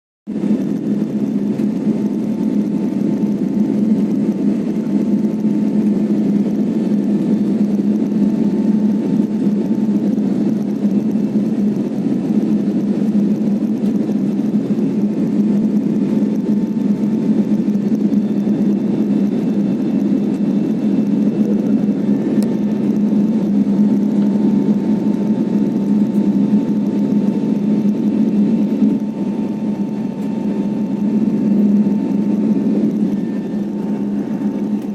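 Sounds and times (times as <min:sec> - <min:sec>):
airliner engine and airflow drone: 0:00.3 - 0:34.9.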